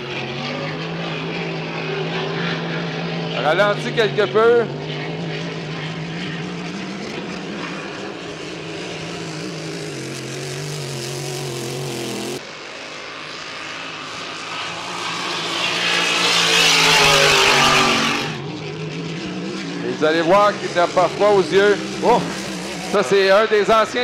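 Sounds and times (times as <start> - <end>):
racing boat engine droning: 0.0 - 24.0.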